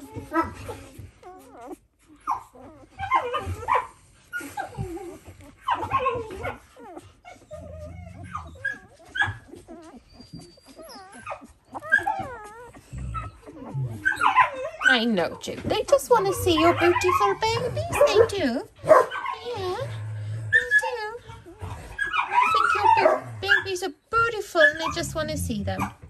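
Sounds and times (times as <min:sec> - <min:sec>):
dog whimpering and whining: 0:00.0 - 0:26.0.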